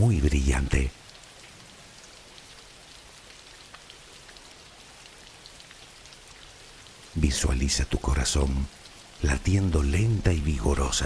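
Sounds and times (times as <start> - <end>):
soft rain falling: 0.0 - 11.0.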